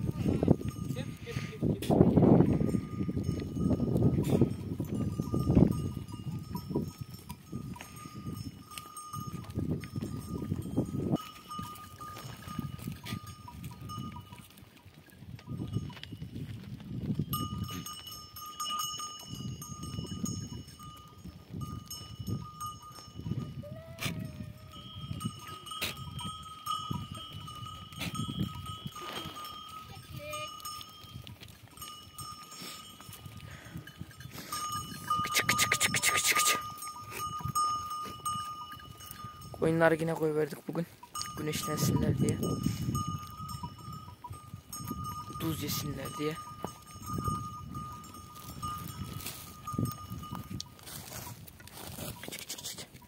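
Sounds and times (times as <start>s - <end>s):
goat bells ringing: 0.0s - 53.0s.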